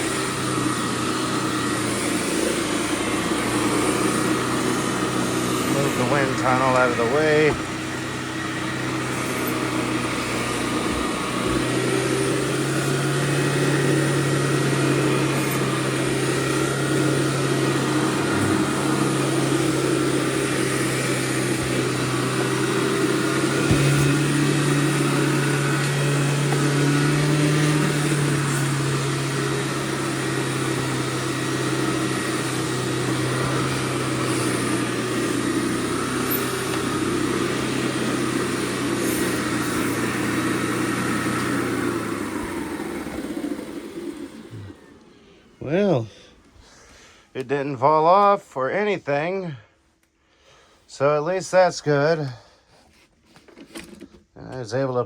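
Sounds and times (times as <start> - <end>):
vacuum cleaner motor humming: 0.0 - 45.9.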